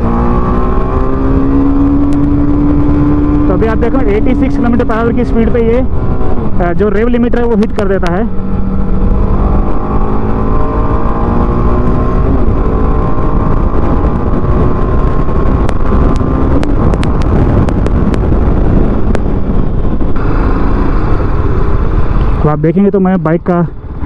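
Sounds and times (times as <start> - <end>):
motorcycle engine: 0.0 - 24.0
road rumble: 0.0 - 24.0
wind noise: 0.0 - 24.0.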